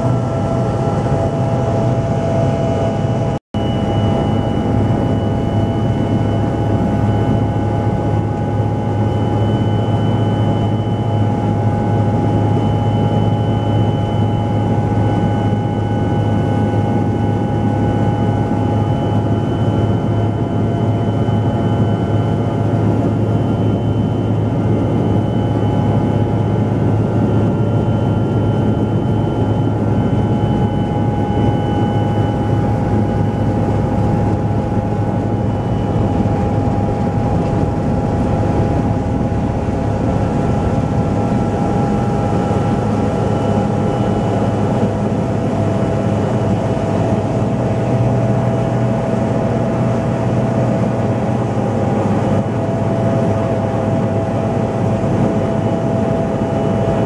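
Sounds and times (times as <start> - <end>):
helicopter rotor and engine drone: 0.0 - 57.0
steady whining tones: 0.0 - 57.0.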